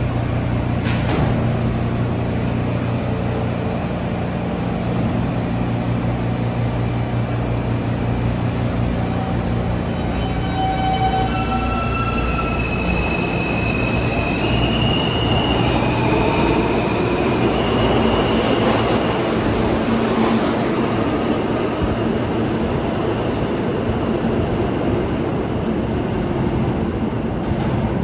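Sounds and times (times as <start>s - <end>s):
subway train rumbling on track: 0.0s - 28.0s.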